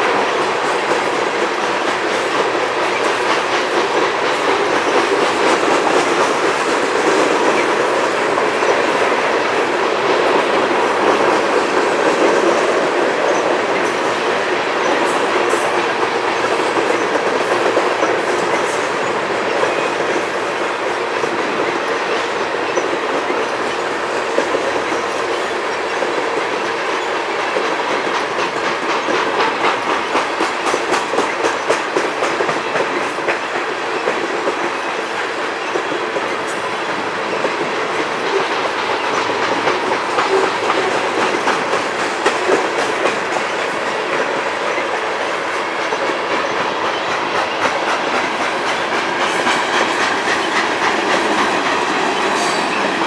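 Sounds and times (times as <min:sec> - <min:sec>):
steel wheels rumbling on rail: 0:00.0 - 0:53.0
wheels clicking over rail joints: 0:00.0 - 0:53.0.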